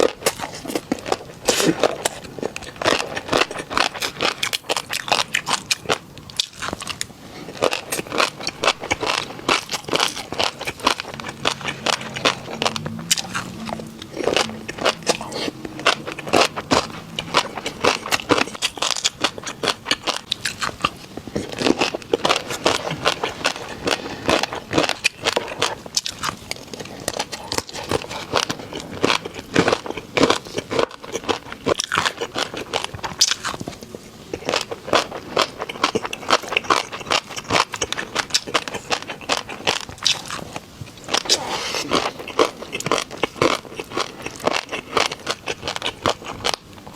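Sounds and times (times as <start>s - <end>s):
person crunching snack: 0.0s - 46.6s.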